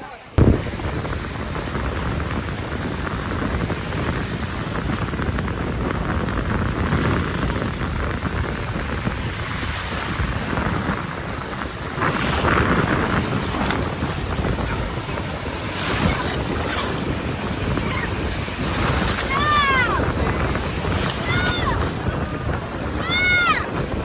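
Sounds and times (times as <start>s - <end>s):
ocean surf: 0.0s - 24.0s
wind buffeting microphone: 0.0s - 24.0s.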